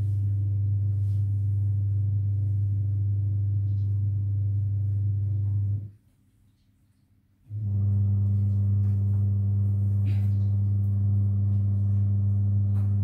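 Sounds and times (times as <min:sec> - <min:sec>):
steady low hum: 0:00.0 - 0:06.0, 0:07.5 - 0:13.0.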